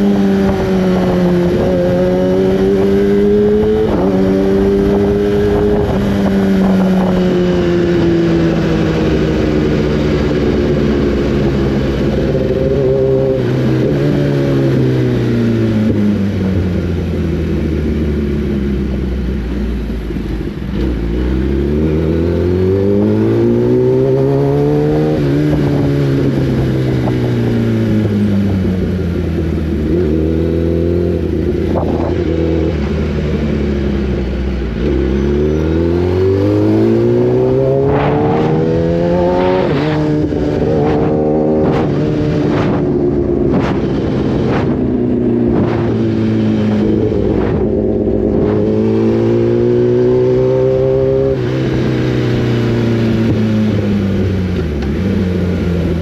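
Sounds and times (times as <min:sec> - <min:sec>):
wind rush: 0:00.0 - 0:17.3, 0:22.1 - 0:34.7, 0:35.7 - 0:54.6
motorcycle engine revving: 0:00.0 - 0:56.0.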